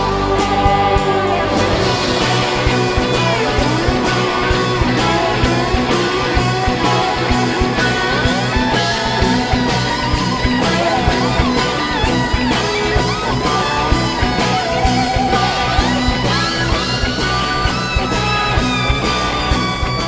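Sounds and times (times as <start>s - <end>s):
bass guitar: 0.0s - 20.0s
electric guitar solo: 0.0s - 20.0s
steady drums: 0.0s - 20.0s.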